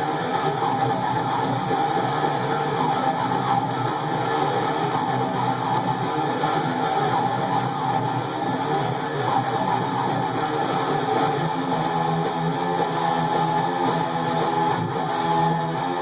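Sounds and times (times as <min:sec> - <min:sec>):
electric guitar metal riff: 0:00.0 - 0:16.0.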